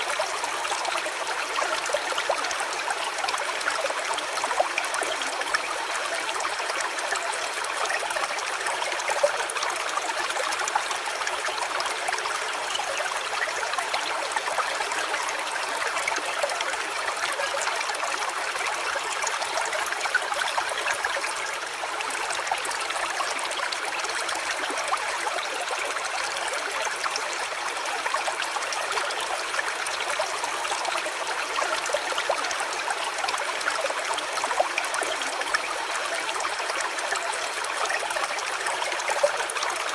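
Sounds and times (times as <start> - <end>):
small stream babbling: 0.0 - 39.9.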